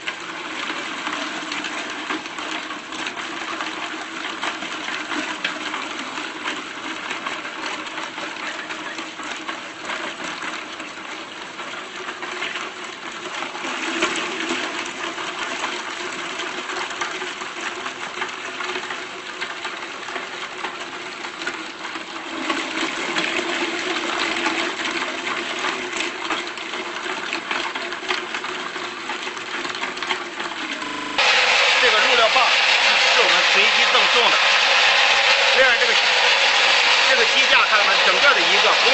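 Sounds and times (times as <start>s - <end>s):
meat grinder motor hum: 0.0s - 38.9s.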